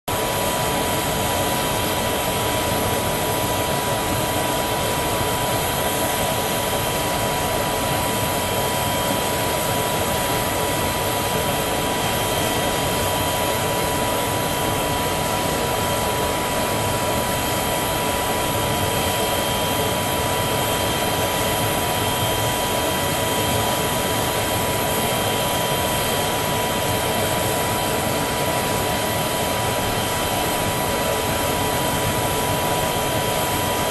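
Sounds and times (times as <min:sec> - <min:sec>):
high turbine whine: 0:00.1 - 0:33.9
jet turbine rushing: 0:00.1 - 0:33.9.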